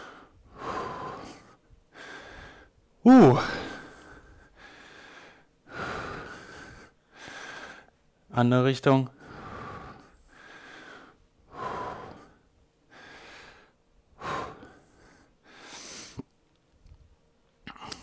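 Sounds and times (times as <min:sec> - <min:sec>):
man breathing in and out: 0:00.0 - 0:08.3, 0:09.1 - 0:16.3.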